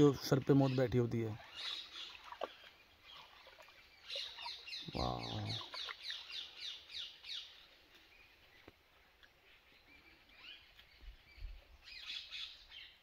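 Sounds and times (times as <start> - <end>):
wild birds chirping and calling: 0.0 - 13.0.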